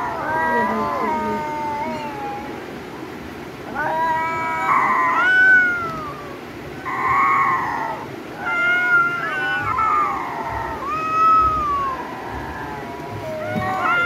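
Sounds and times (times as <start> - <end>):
kittens meowing: 0.0 - 2.6, 3.7 - 14.0.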